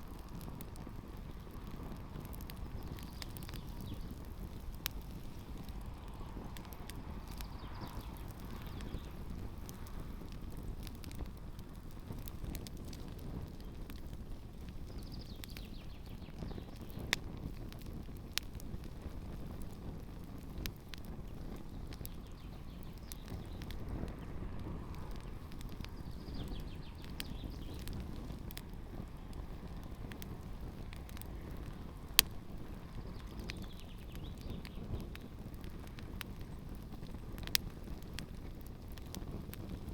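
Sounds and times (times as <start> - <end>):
campfire flames rushing: 0.0 - 39.9
fire popping and crackling: 0.0 - 39.9.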